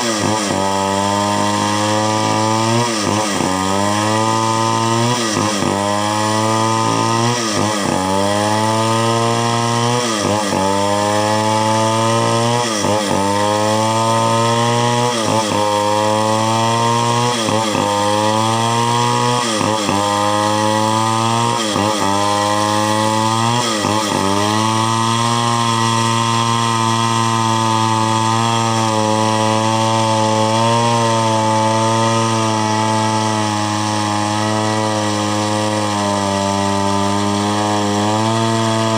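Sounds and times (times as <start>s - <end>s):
chainsaw engine running hard: 0.0s - 38.9s.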